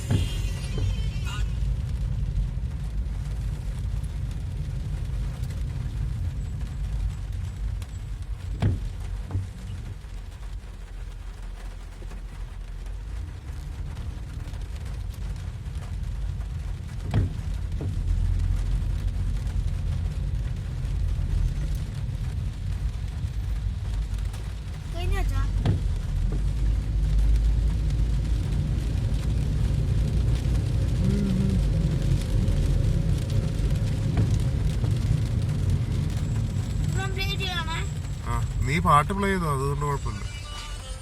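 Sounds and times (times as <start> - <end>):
rain: 0.0 - 41.0.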